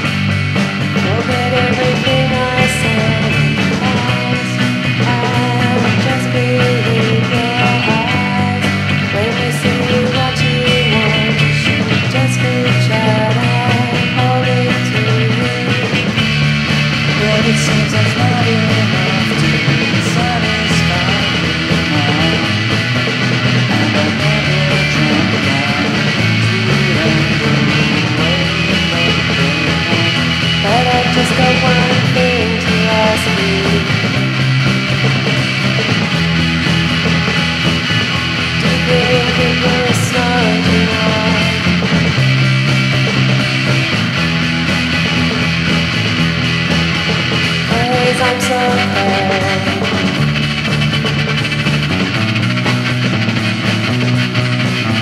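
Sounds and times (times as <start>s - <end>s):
band song with sliding melody: 0.0s - 55.0s.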